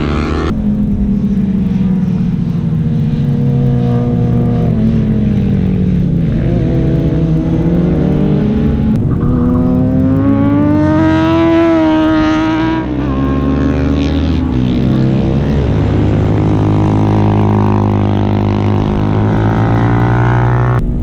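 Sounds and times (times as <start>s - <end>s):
motorcycle engine running hard: 0.0s - 21.0s.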